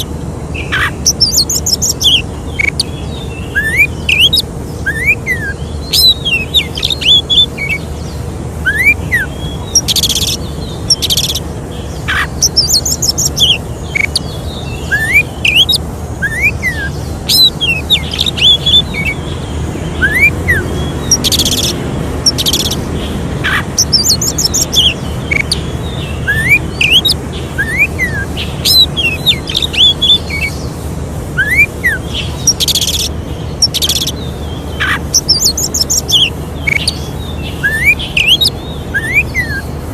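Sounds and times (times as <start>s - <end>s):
bird singing whistled notes and trills: 0.0s - 39.9s
low steady hum: 0.0s - 39.9s.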